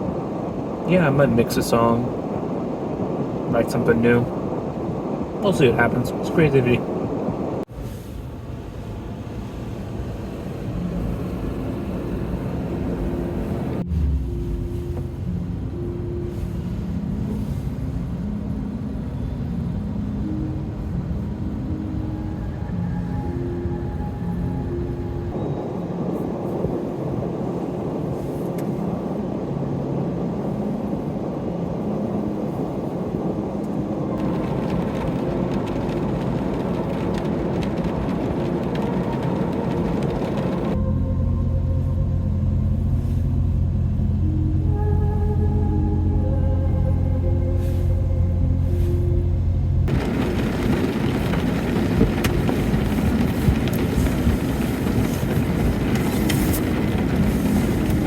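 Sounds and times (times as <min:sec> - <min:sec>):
faint humming tones: 0:00.0 - 0:58.0
low vehicle rumble: 0:00.0 - 0:58.0.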